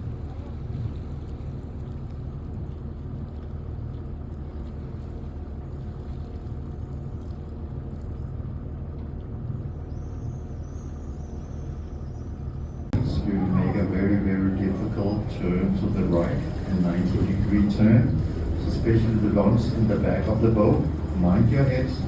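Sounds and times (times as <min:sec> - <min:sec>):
boat engine humming: 0:00.0 - 0:22.0
water noise: 0:00.0 - 0:22.0.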